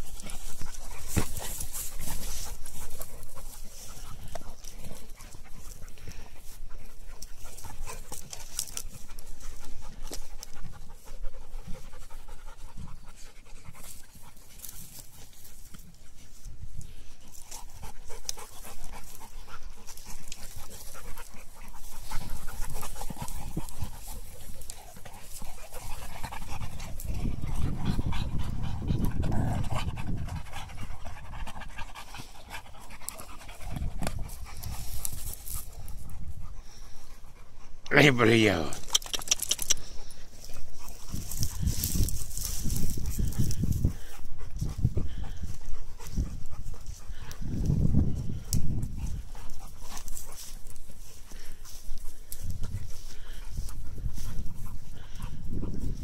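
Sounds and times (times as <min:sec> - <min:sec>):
dogs panting: 0:00.0 - 0:56.0.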